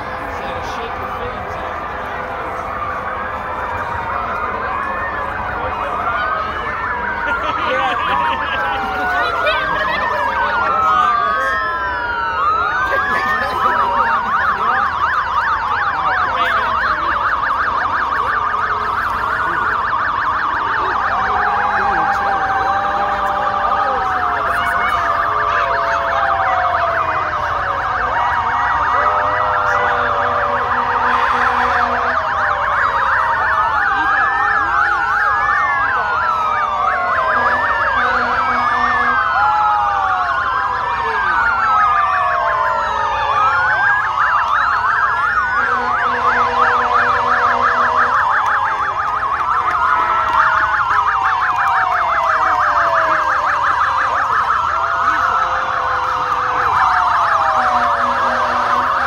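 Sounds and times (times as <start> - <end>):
siren yelp: 0.0 - 59.0
sirens wailing: 0.0 - 59.0.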